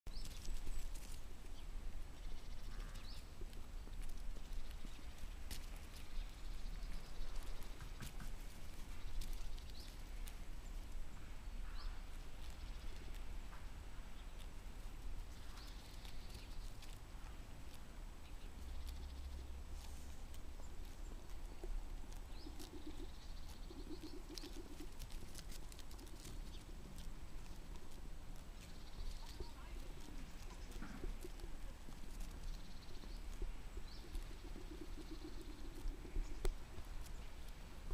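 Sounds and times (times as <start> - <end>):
lambs tearing and chewing grass: 0.1 - 37.9.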